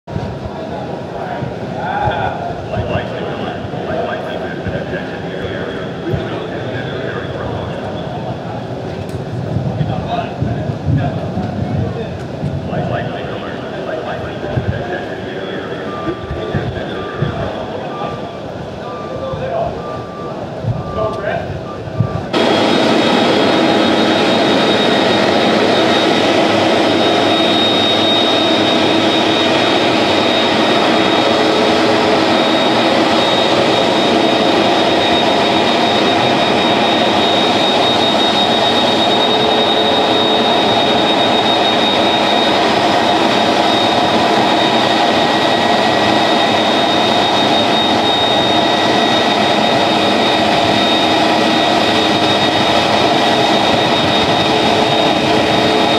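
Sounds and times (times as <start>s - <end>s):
jet engines idling: 0.1s - 55.9s.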